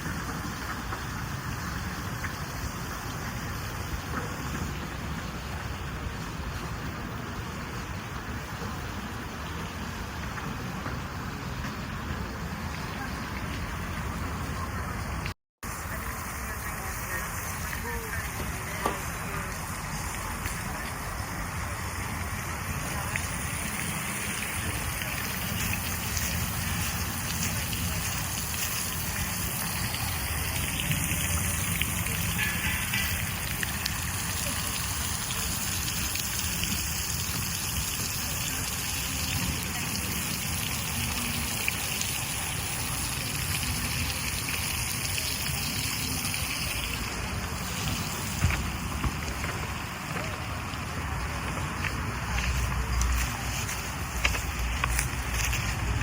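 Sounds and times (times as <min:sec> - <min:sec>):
falling splashing water: 0:00.0 - 0:56.0.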